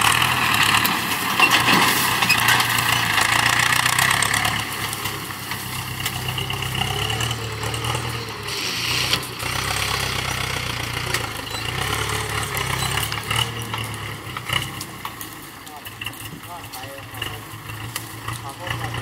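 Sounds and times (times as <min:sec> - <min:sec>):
tractor diesel engine running: 0:00.0 - 0:19.0
truck engine moving off: 0:00.0 - 0:19.0.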